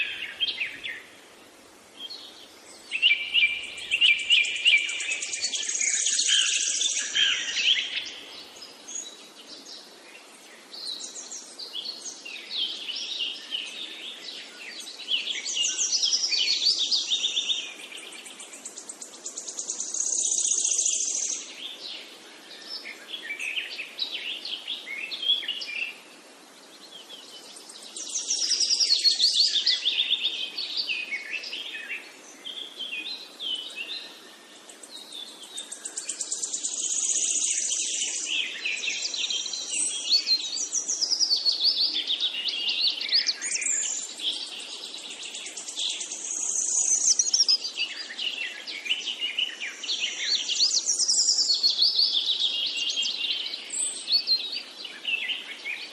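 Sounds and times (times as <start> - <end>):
songbird trilling and chirping: 2.8 - 9.2, 10.8 - 21.9, 27.2 - 55.9.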